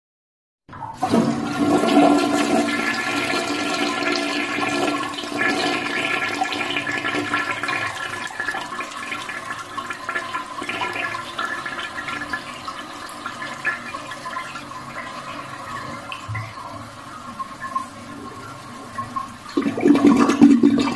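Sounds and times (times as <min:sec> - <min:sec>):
toilet flushing: 0:00.7 - 0:20.9
water running: 0:00.7 - 0:20.9.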